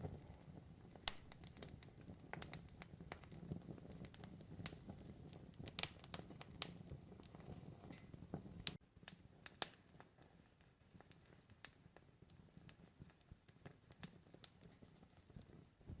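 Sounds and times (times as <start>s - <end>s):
campfire crackling: 0.0s - 16.0s
low rumble of flames: 0.0s - 16.0s
sharp pops of fire: 0.0s - 16.0s.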